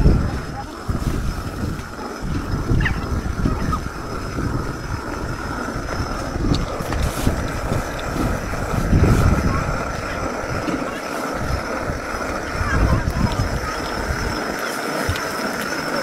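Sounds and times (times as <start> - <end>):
hand quern grinding rumble: 0.0 - 16.0.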